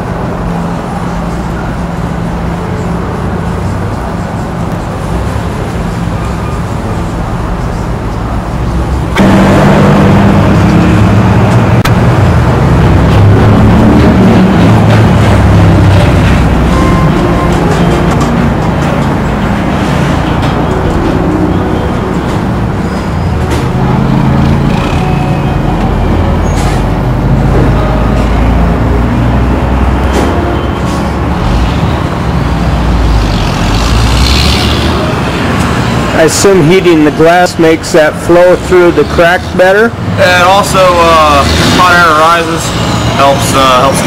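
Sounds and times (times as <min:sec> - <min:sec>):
machine hum: 0:00.0 - 0:36.2
heavy vehicle engine running: 0:00.0 - 0:44.0
traffic noise: 0:00.0 - 0:44.0.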